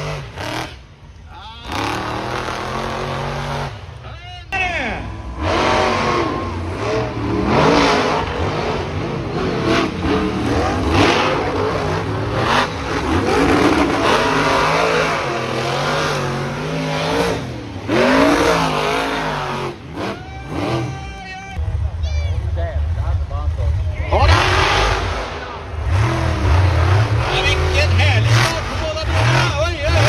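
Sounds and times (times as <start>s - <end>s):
monster truck engines revving: 0.0s - 30.0s.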